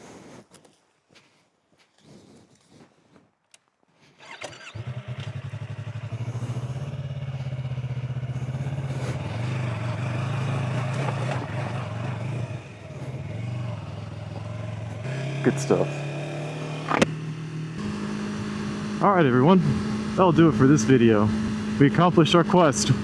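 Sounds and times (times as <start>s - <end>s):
motorcycle engine starting: 4.0s - 23.0s.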